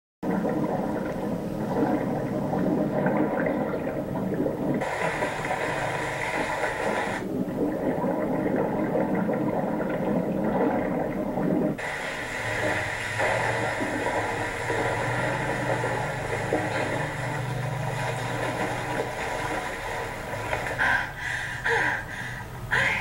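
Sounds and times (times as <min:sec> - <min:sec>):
hissy rush of bubbles: 0:00.2 - 0:21.2
bubbling: 0:00.2 - 0:22.8
muffled underwater water sound: 0:00.2 - 0:23.0.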